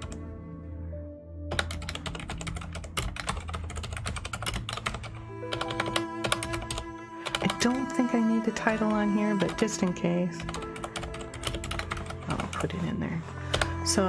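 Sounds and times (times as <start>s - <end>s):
background music: 0.0s - 14.0s
fast typing on keyboard: 1.5s - 9.8s, 10.4s - 13.9s.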